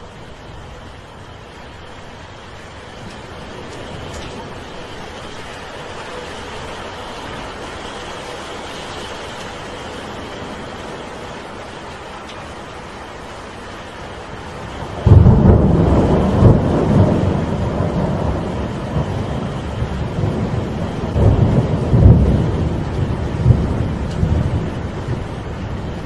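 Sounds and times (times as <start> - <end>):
steady rain: 0.0 - 26.0
thunder rumbling: 0.0 - 26.0
wind: 0.0 - 26.0.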